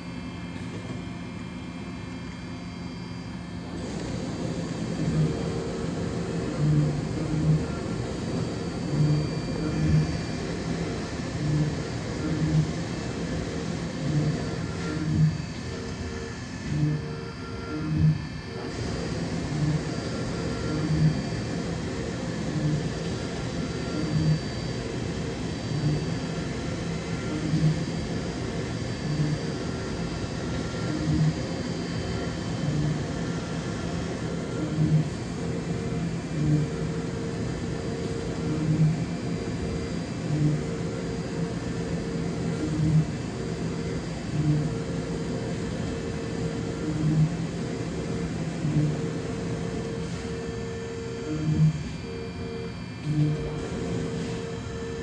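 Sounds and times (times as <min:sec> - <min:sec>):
cnc machine cutting: 0:00.3 - 0:55.0.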